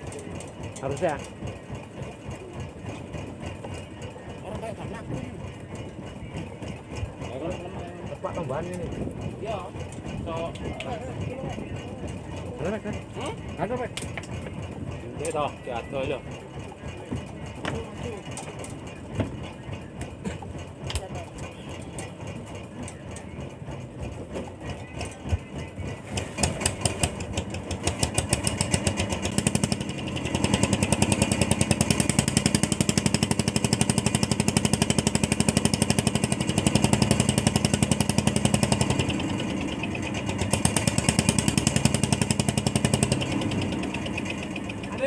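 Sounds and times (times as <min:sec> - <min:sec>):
boat engine thudding: 0:00.0 - 0:45.0.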